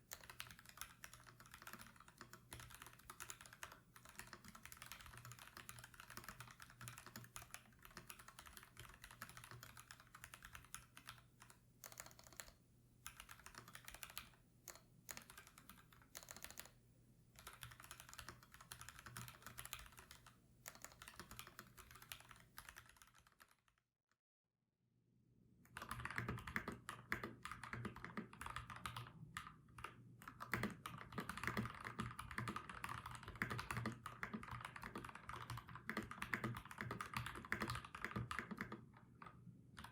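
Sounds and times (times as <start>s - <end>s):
typing on mechanical keyboard: 0.0s - 16.8s, 17.4s - 23.7s, 25.7s - 39.9s.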